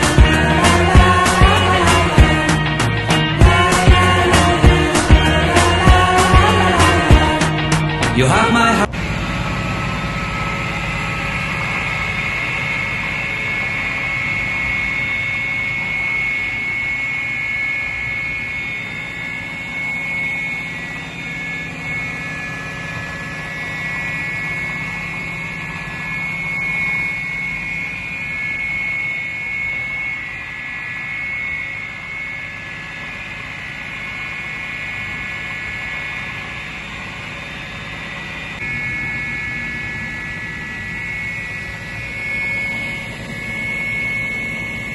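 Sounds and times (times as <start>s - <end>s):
table saw motor whining: 0.0s - 44.9s.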